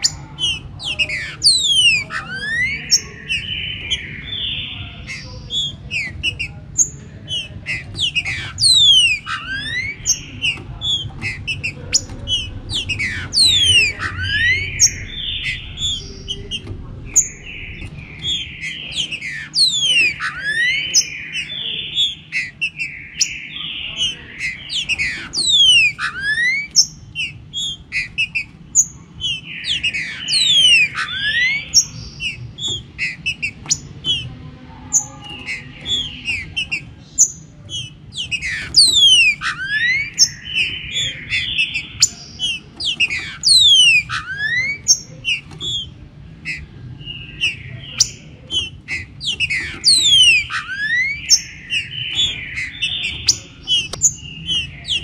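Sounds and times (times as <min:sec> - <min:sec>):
bird whistled song phrases: 0:00.0 - 0:34.2, 0:34.9 - 0:55.0.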